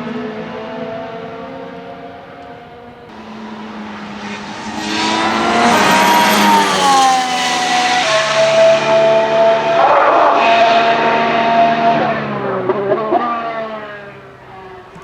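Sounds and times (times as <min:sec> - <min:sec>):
fainter car engine: 0:00.0 - 0:15.0
race car engine passing: 0:00.2 - 0:14.9.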